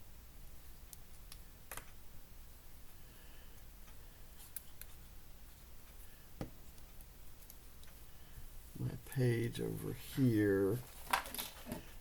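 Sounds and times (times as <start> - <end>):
low steady room hum: 0.0 - 12.0.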